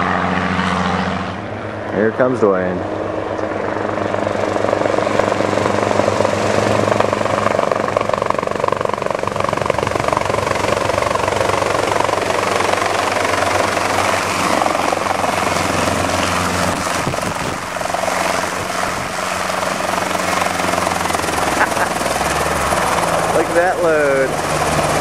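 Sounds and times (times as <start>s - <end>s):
helicopter engine and rotor: 0.0s - 25.0s.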